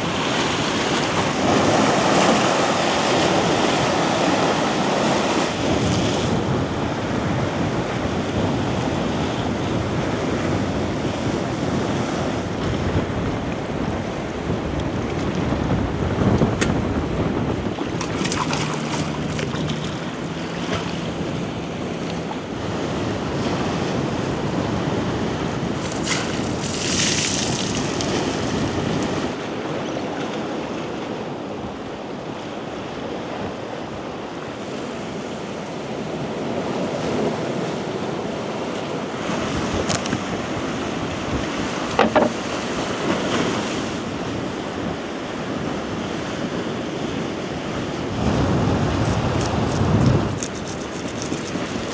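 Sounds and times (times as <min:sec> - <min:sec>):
sea waves washing ashore: 0:00.0 - 0:51.9
wind buffeting microphone: 0:00.0 - 0:51.9.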